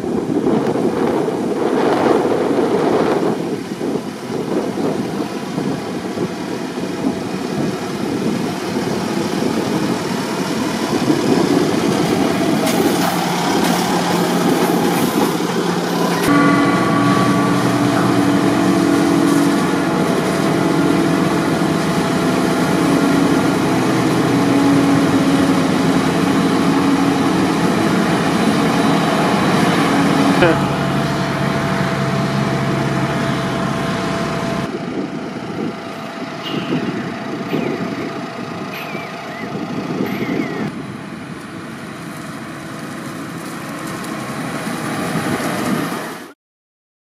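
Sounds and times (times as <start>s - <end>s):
engine drone with whine: 0.0s - 46.3s
tractor engine running: 0.0s - 46.3s
wind noise: 0.0s - 46.3s.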